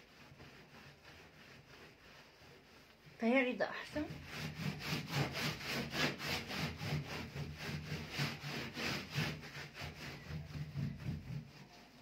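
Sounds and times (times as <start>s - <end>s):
cloth scrubbing metal panel: 0.0s - 12.0s.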